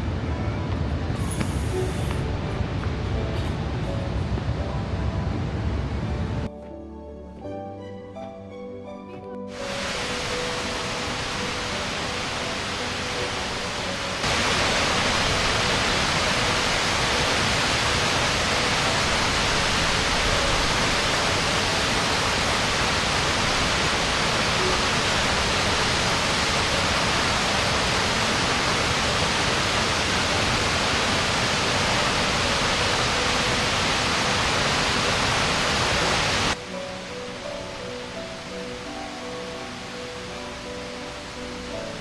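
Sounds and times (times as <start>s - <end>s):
waterfall roaring: 0.0s - 6.5s, 9.5s - 42.0s.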